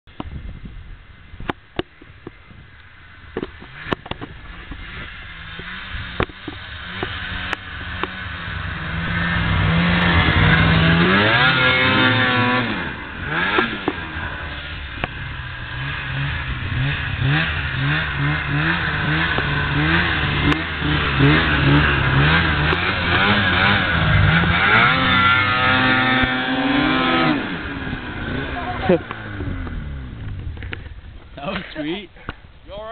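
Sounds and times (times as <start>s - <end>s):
snowmobile engine revving: 3.6s - 32.9s.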